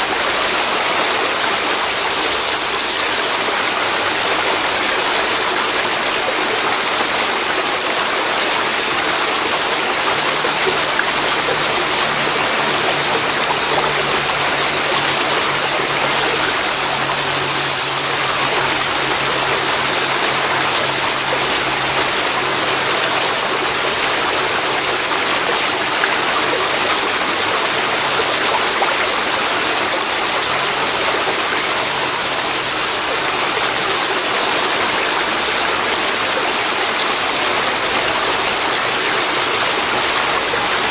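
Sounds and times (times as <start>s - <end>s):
waterfall rushing into river: 0.0s - 40.9s.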